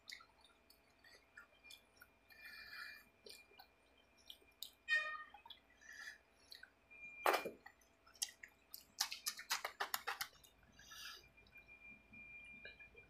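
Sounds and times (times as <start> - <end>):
wet chewing and lip smacks: 0.0 - 11.6.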